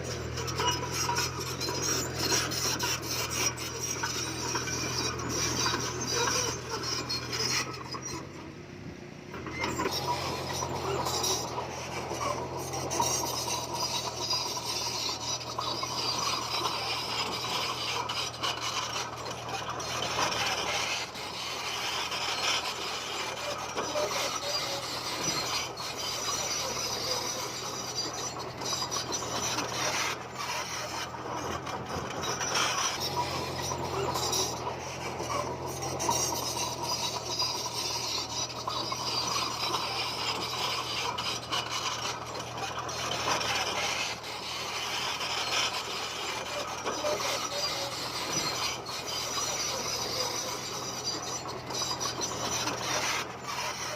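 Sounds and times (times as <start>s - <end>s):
rock grinding and scraping: 0.0s - 8.3s, 9.5s - 53.9s
diesel engine drone: 0.0s - 53.9s.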